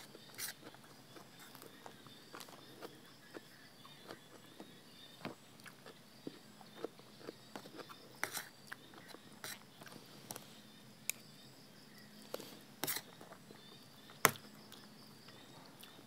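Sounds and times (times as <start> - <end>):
chewing crunchy food: 0.0 - 11.3, 12.1 - 16.0.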